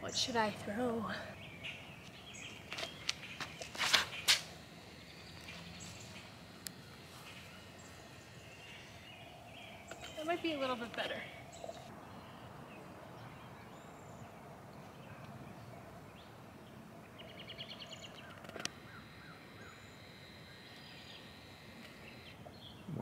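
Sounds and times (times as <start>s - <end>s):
small birds calling: 0.0s - 12.8s, 17.1s - 23.0s
faint open-air ambience: 0.0s - 23.0s.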